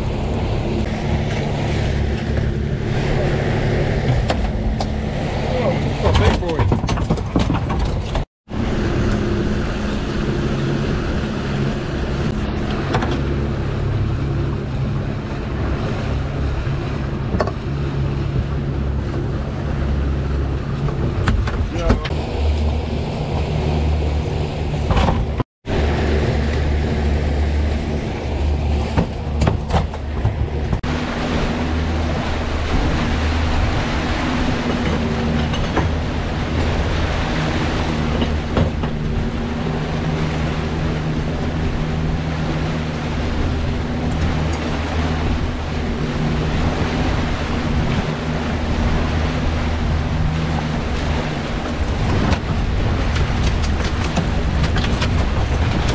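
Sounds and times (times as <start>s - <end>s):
outboard engine running: 0.0s - 55.9s
water churning in wake: 0.0s - 55.9s.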